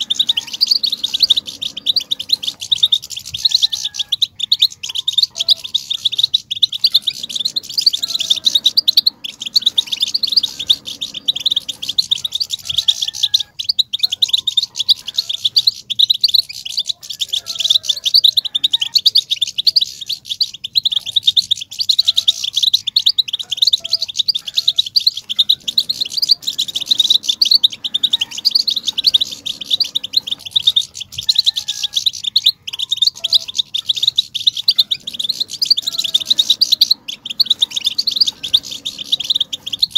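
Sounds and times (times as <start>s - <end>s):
finches twittering: 0.0s - 39.9s.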